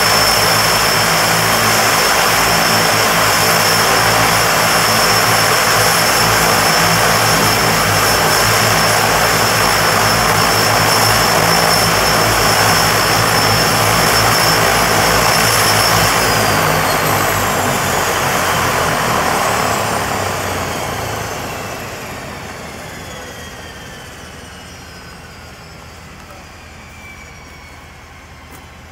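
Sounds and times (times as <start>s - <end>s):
engines spooling down: 0.0s - 28.9s
turboprop engines whining: 0.0s - 28.9s.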